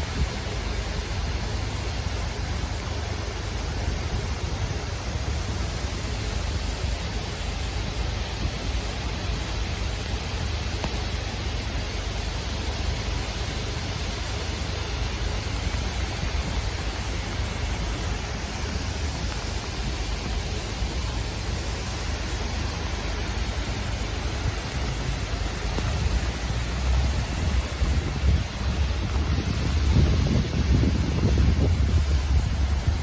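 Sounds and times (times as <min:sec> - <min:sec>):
waterfall rushing: 0:00.0 - 0:33.0
wind rumble on microphone: 0:00.0 - 0:33.0.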